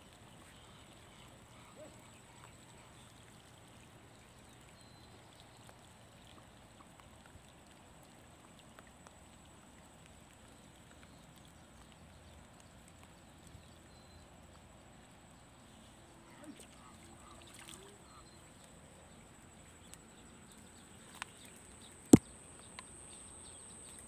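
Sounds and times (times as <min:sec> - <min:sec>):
light rain on a pond: 0:00.0 - 0:24.0.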